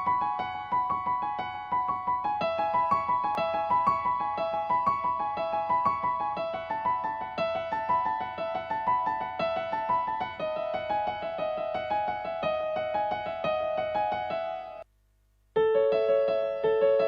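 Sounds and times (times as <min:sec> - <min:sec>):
piano broken chords: 0:00.0 - 0:14.8.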